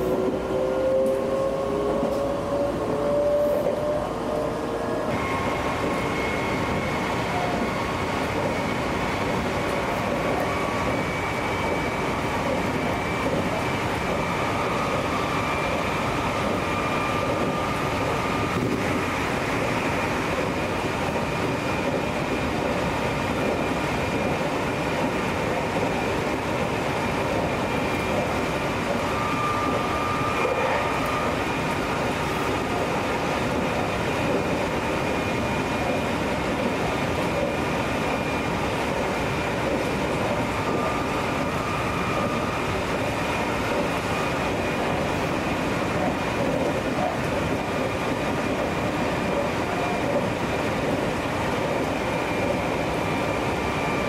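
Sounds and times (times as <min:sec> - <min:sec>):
rumble of train wheels on rail: 0:00.0 - 0:54.0.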